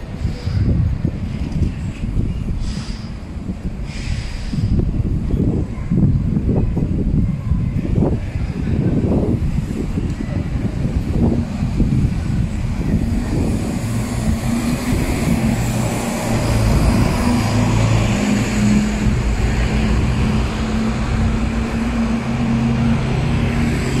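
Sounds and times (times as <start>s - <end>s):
bus diesel engine hum: 0.0s - 24.0s
street traffic: 0.0s - 24.0s.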